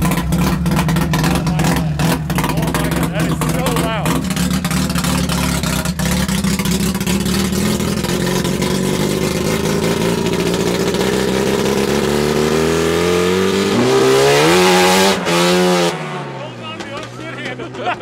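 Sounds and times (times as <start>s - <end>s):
rotary engine revving: 0.0s - 17.7s.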